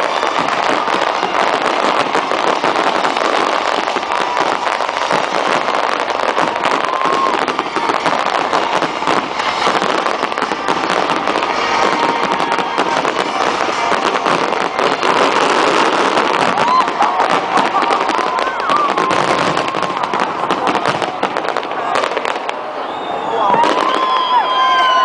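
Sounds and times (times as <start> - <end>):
firework whistles: 0.0 - 25.0
fireworks crackling and popping: 0.0 - 25.0.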